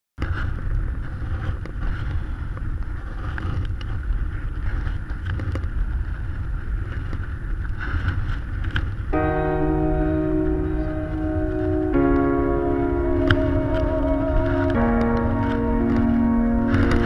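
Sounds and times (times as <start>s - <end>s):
wind rumbling on microphone: 0.2s - 17.0s.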